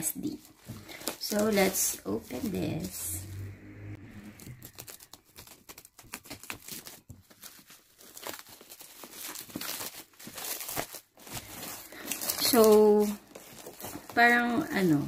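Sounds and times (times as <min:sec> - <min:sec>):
bubble wrap crinkling: 0:00.0 - 0:03.4, 0:04.2 - 0:15.0.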